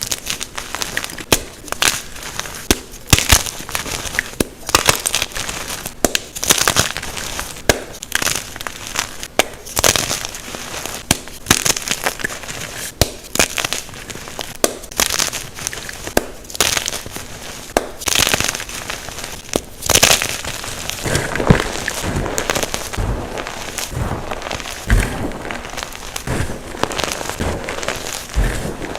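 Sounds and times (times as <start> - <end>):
chalk blocks crunching: 0.0 - 28.9.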